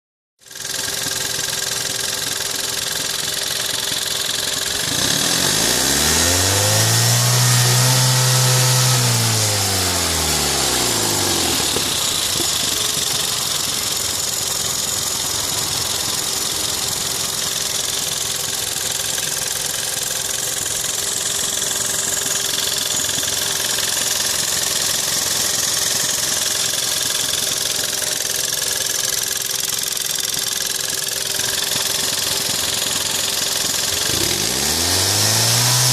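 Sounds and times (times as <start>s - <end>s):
car engine idling and revving: 0.5s - 35.9s.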